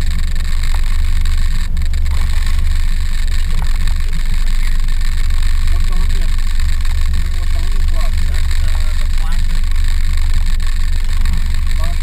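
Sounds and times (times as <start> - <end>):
boat motor droning: 0.0 - 12.0
constant hiss: 0.0 - 12.0.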